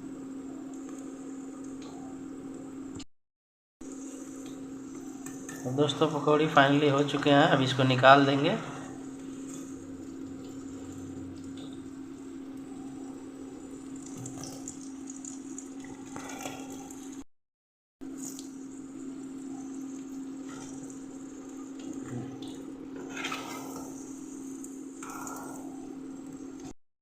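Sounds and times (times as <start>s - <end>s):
low steady hum: 3.8s - 17.2s, 18.0s - 26.8s.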